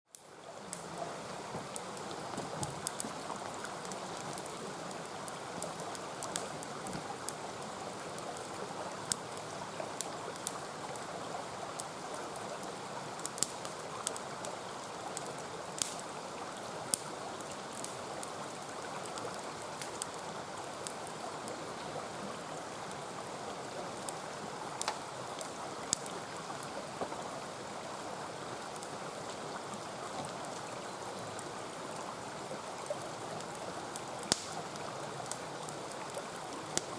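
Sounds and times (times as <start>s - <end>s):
campfire crackling and popping: 0.1s - 21.6s, 23.9s - 27.2s, 31.4s - 36.9s
mountain stream rushing: 0.3s - 36.9s.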